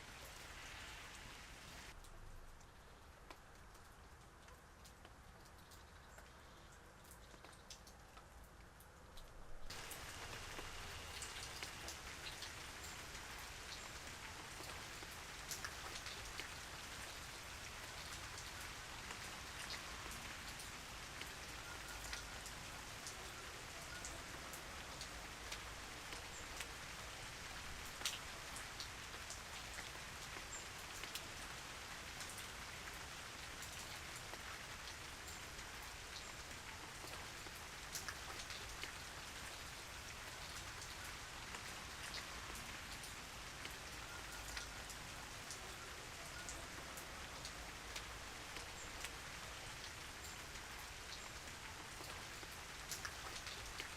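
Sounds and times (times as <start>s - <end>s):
raindrops ticking on a surface: 0.0s - 53.9s
steady rain: 0.0s - 53.9s.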